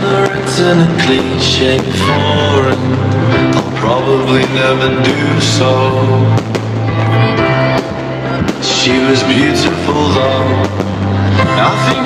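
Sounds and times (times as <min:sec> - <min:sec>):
firework bangs: 0:00.0 - 0:12.0
loud pop music: 0:00.0 - 0:12.0.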